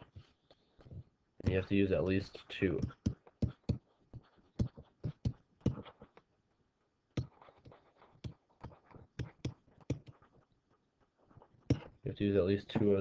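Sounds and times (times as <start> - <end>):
stylus tapping and scraping: 0.0 - 6.3, 7.2 - 12.0.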